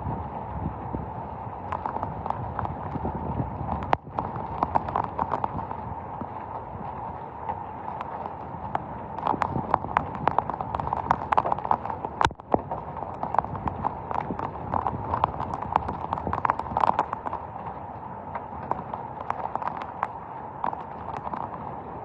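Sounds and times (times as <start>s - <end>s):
raindrops tapping hard surface: 1.6s - 21.7s.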